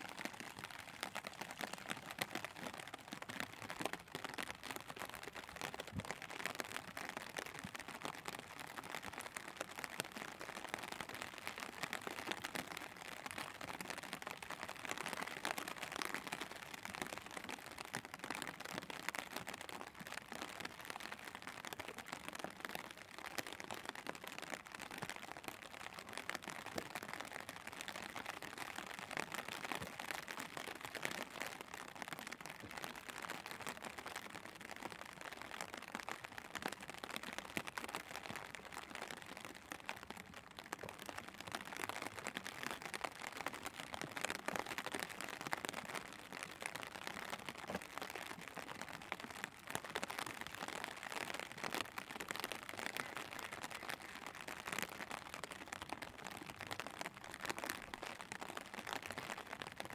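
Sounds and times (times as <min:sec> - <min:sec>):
rain on wet pavement: 0:00.0 - 0:59.9.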